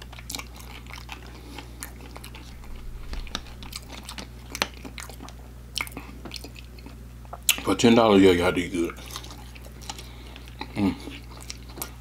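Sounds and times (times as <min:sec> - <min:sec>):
chewing crunchy food: 0:00.0 - 0:07.8, 0:08.7 - 0:12.0.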